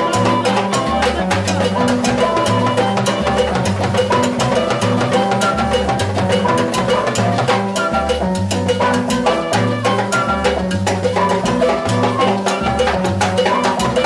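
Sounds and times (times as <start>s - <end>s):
salsa band playing: 0.0s - 14.0s.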